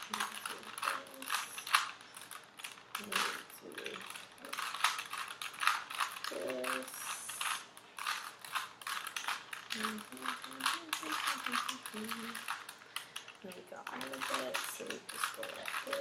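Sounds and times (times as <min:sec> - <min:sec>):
plastic puzzle cube clicking: 0:00.0 - 0:16.0.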